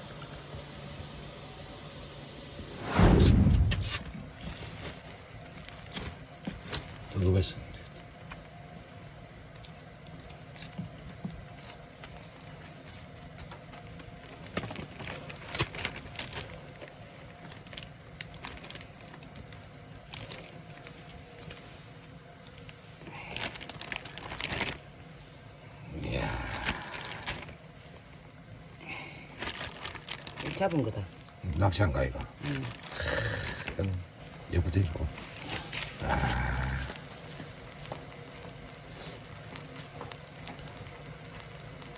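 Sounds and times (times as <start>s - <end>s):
wood fire crackling: 2.6s - 41.9s.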